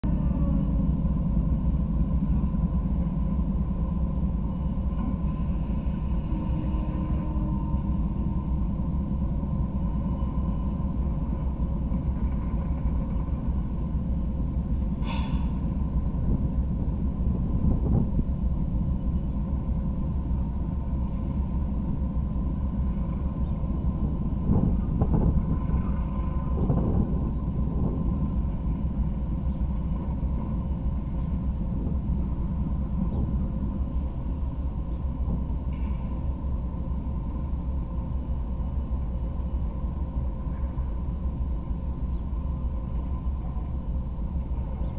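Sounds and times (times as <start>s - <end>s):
diesel locomotive engines idling: 0.0s - 44.9s.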